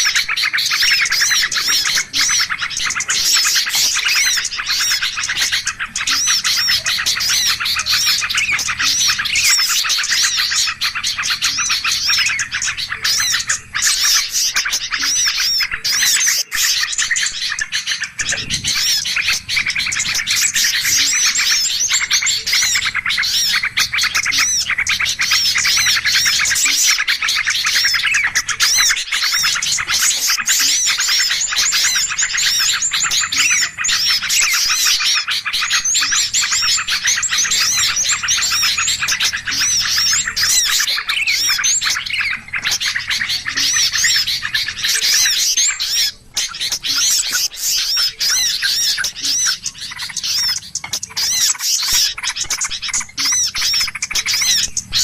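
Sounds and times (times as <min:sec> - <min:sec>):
songbirds chirping rapidly: 0:00.0 - 0:55.0.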